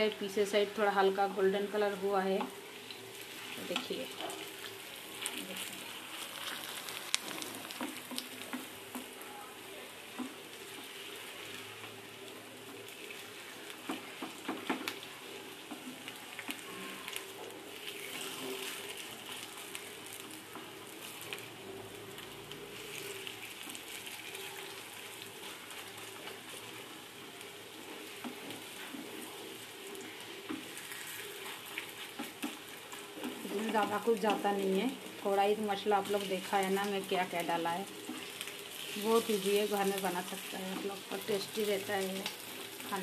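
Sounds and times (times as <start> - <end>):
fritters sizzling in a frying pan: 0.0 - 43.0.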